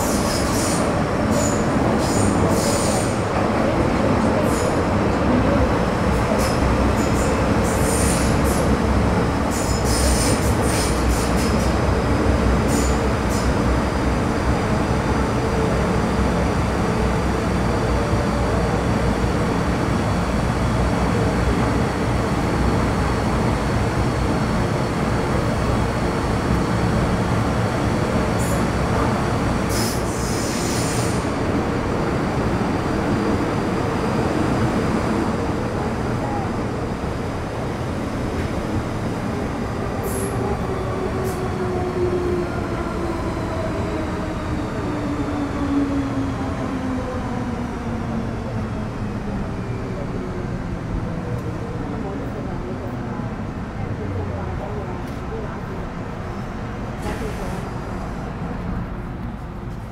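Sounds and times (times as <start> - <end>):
metro train wheels rumbling: 0.0 - 59.9.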